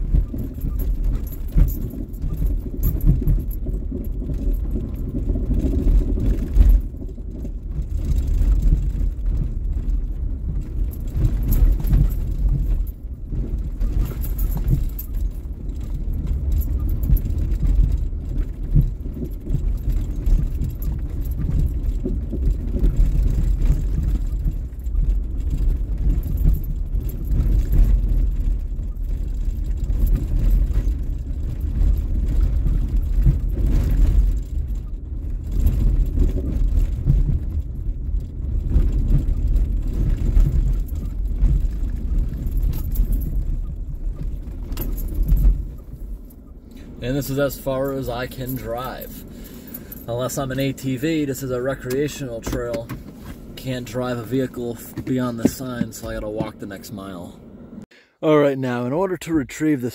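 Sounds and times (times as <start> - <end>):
car knocks and rattles: 0.0 - 57.8
car tyres rumbling on dirt road: 0.0 - 59.9.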